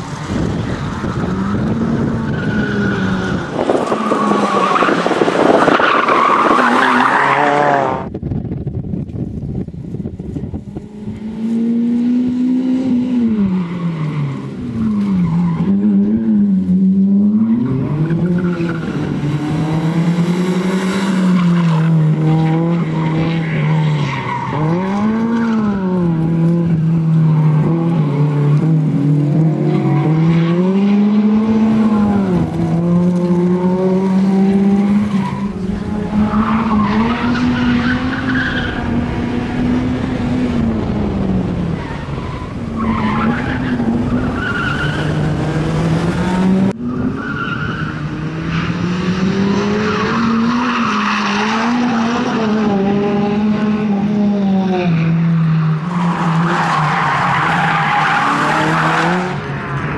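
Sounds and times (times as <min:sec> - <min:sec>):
rally car engine revving: 0:00.0 - 0:08.2, 0:10.4 - 0:59.9.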